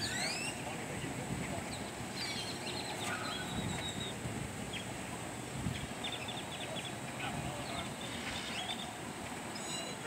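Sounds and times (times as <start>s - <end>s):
outdoor background hum: 0.0s - 10.0s
small birds chirping: 0.0s - 10.0s.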